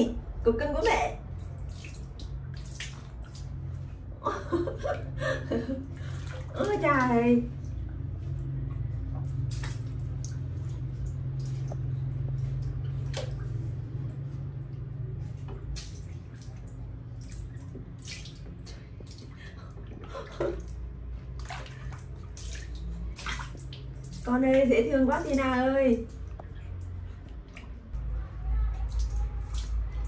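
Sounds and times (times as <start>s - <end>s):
low steady hum: 0.0s - 30.0s
water sloshing and splashing: 0.0s - 30.0s.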